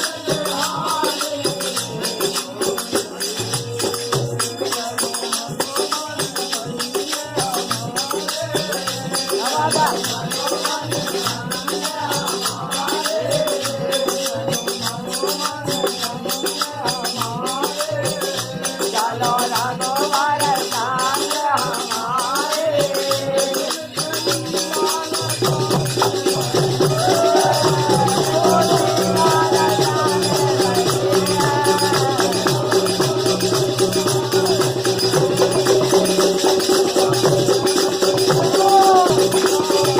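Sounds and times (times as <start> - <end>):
hand percussion beat: 0.0 - 39.9
jingling rattling cymbals: 0.0 - 39.9
person singing: 0.0 - 39.9.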